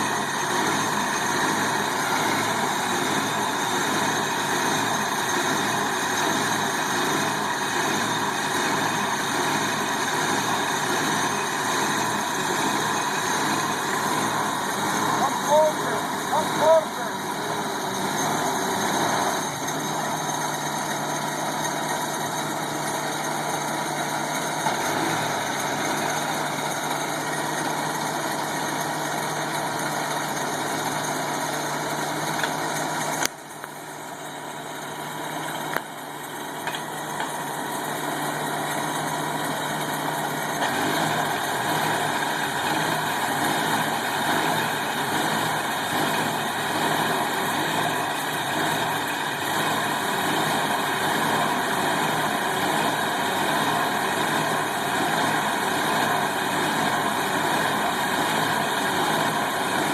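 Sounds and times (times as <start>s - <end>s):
core drill engine running: 0.0s - 59.9s.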